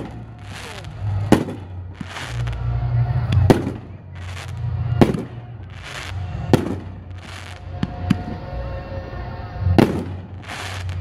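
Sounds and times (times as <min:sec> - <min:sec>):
fireworks bangs: 0:00.0 - 0:08.5, 0:09.6 - 0:11.0
fireworks hissing: 0:00.0 - 0:08.7, 0:09.6 - 0:11.0.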